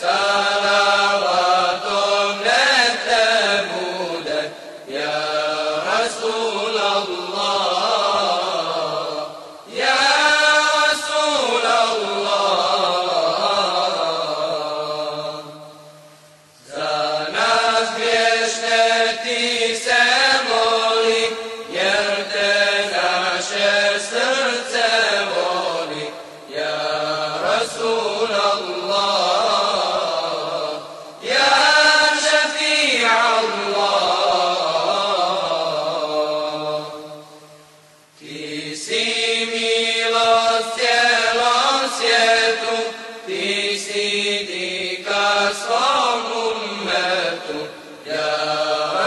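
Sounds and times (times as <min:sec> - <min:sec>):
person singing devotional song: 0:00.0 - 0:16.0, 0:16.6 - 0:49.0.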